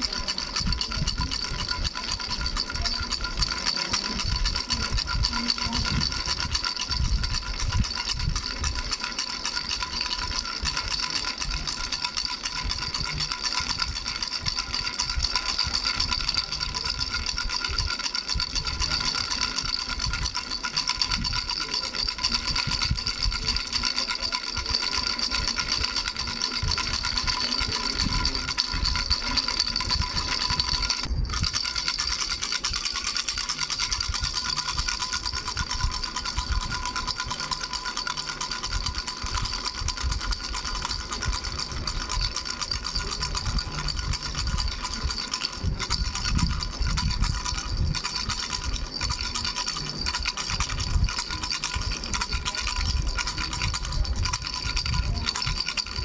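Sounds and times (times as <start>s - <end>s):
baby rattle bells jingling: 0.0s - 56.0s
rattle low knocks: 0.0s - 56.0s.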